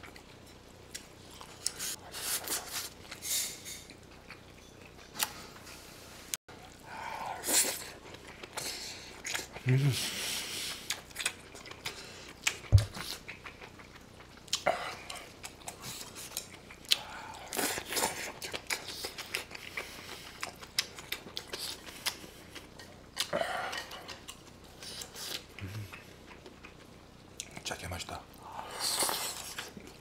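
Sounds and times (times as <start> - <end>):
chewing and wet mouth sounds: 0.0 - 5.6, 6.5 - 30.0.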